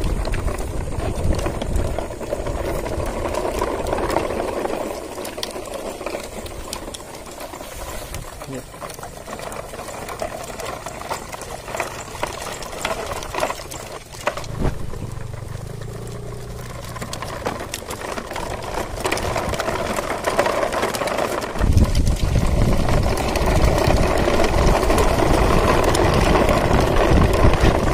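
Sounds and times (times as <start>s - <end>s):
toy truck rattling over gravel: 0.0s - 27.9s
toy wheels rumbling on concrete: 0.0s - 27.9s.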